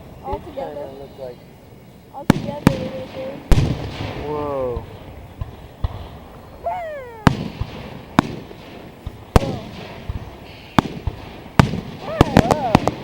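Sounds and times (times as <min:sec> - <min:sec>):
fireworks bangs: 0:02.2 - 0:13.0.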